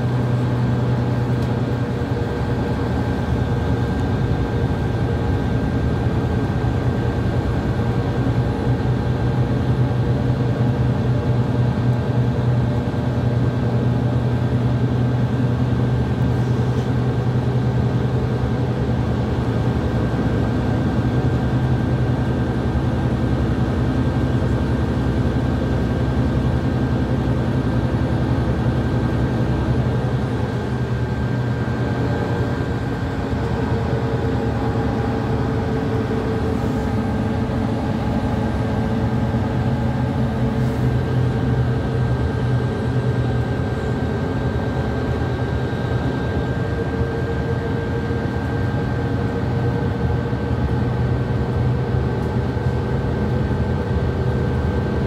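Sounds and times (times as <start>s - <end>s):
bus engine hum: 0.0s - 55.0s
road noise: 0.0s - 55.0s.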